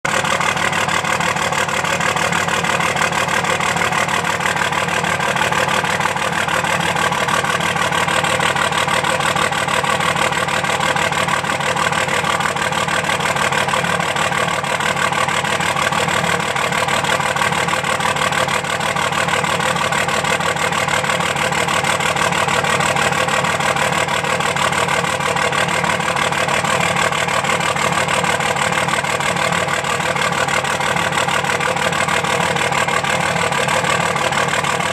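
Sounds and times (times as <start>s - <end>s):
diesel engine idling roughly: 0.0s - 34.9s.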